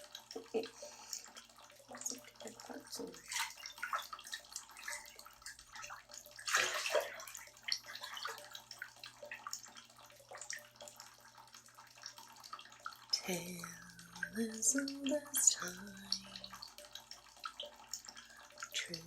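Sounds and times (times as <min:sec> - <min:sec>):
bathwater sloshing: 0:00.0 - 0:19.0
small splashes: 0:00.0 - 0:19.0.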